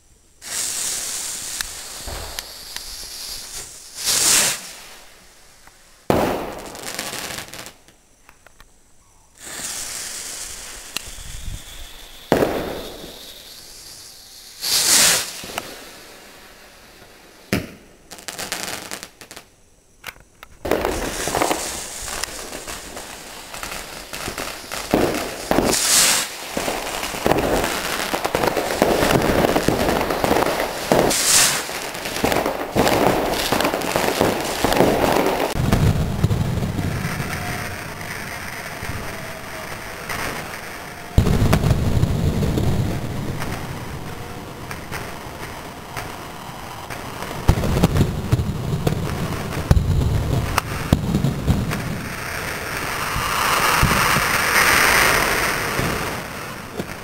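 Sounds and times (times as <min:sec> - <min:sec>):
crackling firework bangs: 0:00.0 - 0:08.0, 0:09.4 - 0:19.5, 0:20.5 - 0:57.0
firework rockets hissing: 0:00.0 - 0:08.4, 0:09.3 - 0:19.7, 0:20.5 - 0:57.0
firework bangs: 0:00.4 - 0:08.0, 0:09.4 - 0:19.5, 0:20.6 - 0:57.0.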